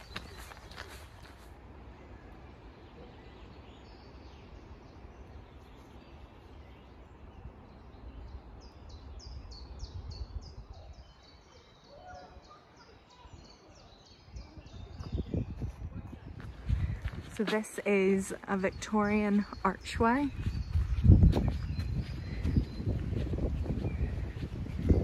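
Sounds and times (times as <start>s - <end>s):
small songbird singing: 0.0s - 1.2s, 1.9s - 25.0s.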